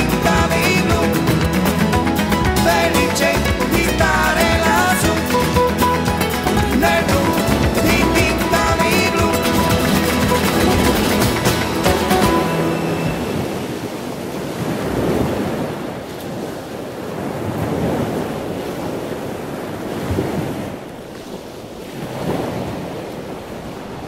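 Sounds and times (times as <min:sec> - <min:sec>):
sea water rushing and splashing: 0:00.0 - 0:24.0.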